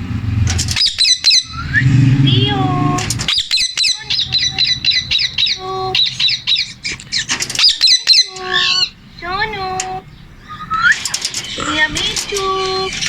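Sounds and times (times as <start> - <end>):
low-pitched parakeet call: 0.0 - 13.0
parakeet squawking: 0.0 - 13.0.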